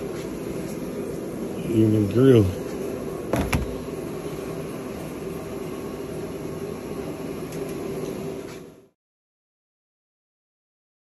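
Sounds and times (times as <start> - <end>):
mechanical hum: 0.0 - 9.0.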